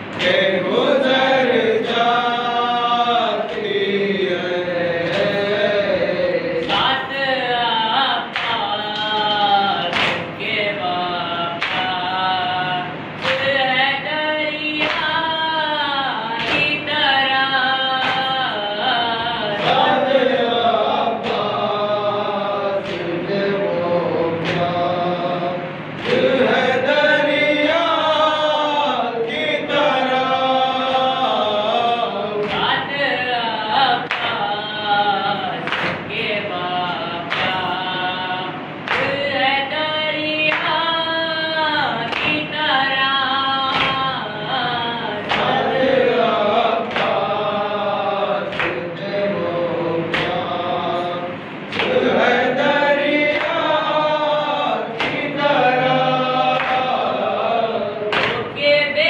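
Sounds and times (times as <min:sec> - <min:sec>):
men chanting a lament: 0:00.0 - 0:59.0.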